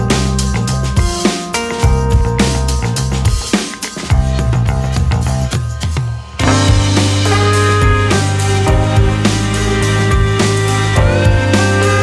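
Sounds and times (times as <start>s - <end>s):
deep bass line: 0.0s - 1.1s, 1.8s - 3.4s, 4.1s - 5.8s, 6.4s - 12.0s
drum beats: 0.0s - 12.0s
held chords: 0.0s - 12.0s.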